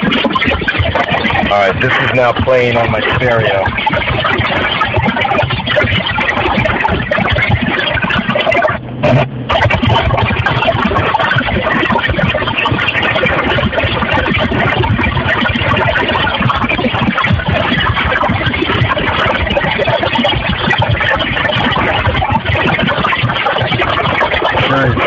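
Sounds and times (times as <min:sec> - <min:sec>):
rasping radio signal buzz: 0:00.9 - 0:22.0, 0:22.8 - 0:25.0.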